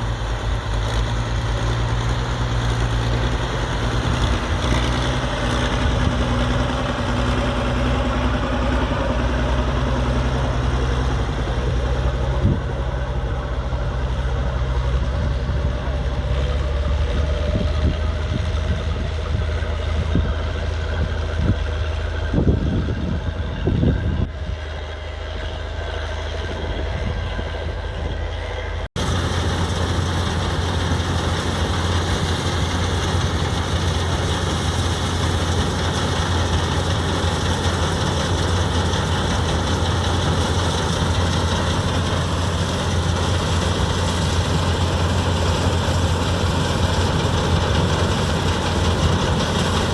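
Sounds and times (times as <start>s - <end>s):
engine revving: 0.0s - 19.6s, 28.9s - 49.9s
tractor engines running: 0.0s - 49.9s.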